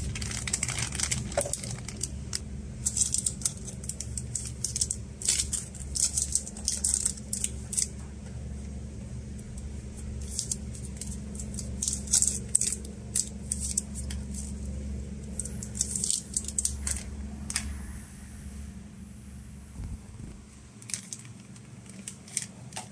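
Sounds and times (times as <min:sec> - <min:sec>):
packaging rustling and scraping: 0:00.0 - 0:08.0, 0:09.4 - 0:17.6, 0:20.8 - 0:22.9
steady low hum: 0:00.0 - 0:22.9.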